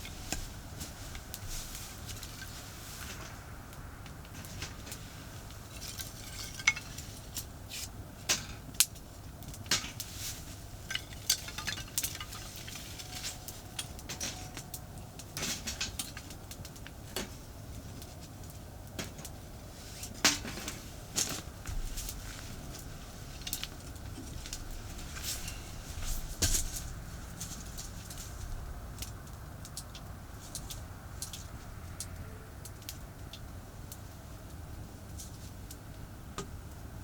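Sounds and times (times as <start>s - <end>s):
distant highway traffic: 0.0s - 37.0s
wood fire crackling and popping: 0.0s - 37.0s.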